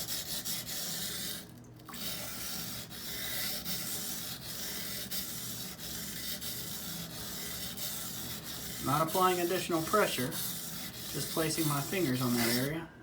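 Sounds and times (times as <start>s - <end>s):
knife grinding on whetstone: 0.0s - 12.8s.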